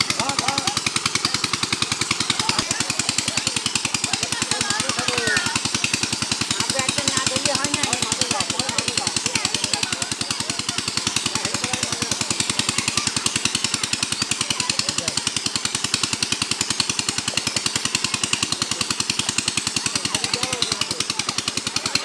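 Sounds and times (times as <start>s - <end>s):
faint voices: 0.0s - 22.0s
small engine chugging: 0.0s - 22.0s.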